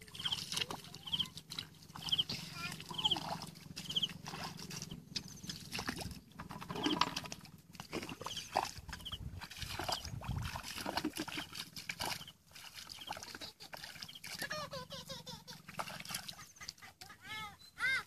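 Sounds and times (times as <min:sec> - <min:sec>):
feet wading through muddy water: 0:00.0 - 0:14.6, 0:15.5 - 0:17.0.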